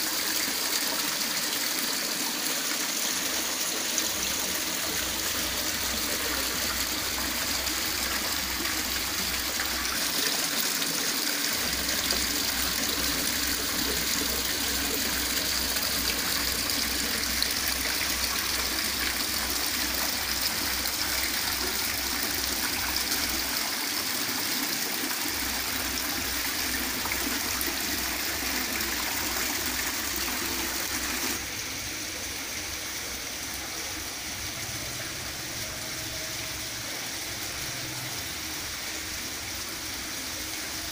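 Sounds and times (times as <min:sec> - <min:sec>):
fountain water falling over rocks: 0:00.0 - 0:40.9.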